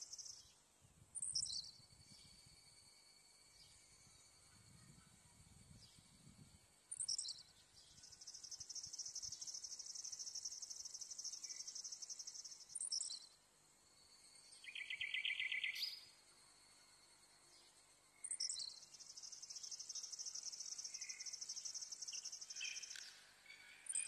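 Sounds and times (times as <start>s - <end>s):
low pulsed insect call: 0.0s - 24.0s.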